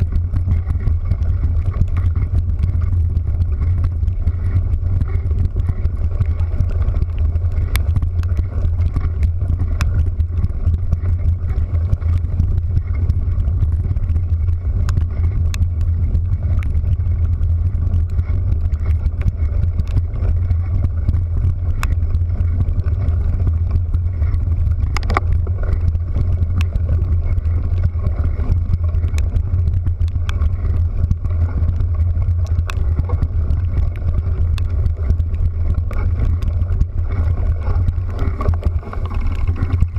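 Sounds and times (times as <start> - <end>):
vehicle low rumble: 0.0 - 39.9.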